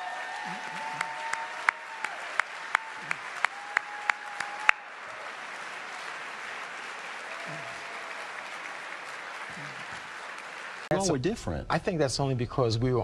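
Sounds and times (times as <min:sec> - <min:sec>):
audience applause: 0:00.0 - 0:11.2.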